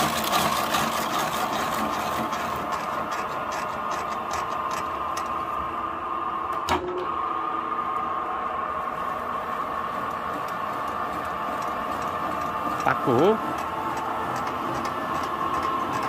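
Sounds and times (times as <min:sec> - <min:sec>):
lathe motor hum: 0:00.0 - 0:16.0.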